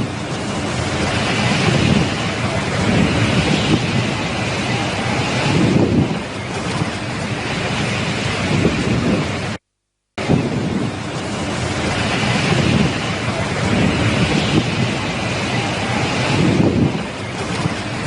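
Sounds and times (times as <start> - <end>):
strong wind buffeting microphone: 0.0 - 9.6, 10.2 - 18.0.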